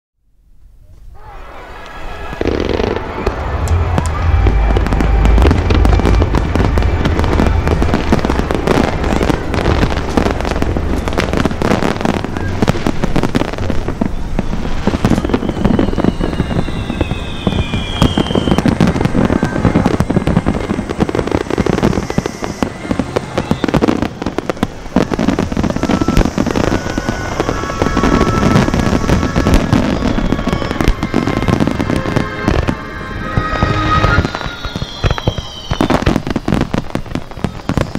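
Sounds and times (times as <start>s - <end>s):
descending firework whistle: 0.8s - 37.9s
fireworks bursts and crackle: 1.4s - 37.9s
deep fireworks booms: 2.1s - 37.9s.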